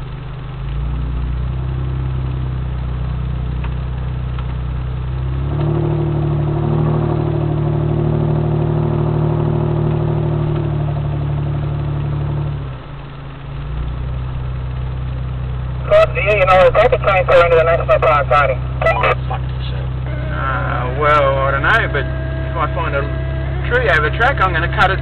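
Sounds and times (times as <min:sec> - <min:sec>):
vehicle engine from inside cabin: 0:00.0 - 0:25.0.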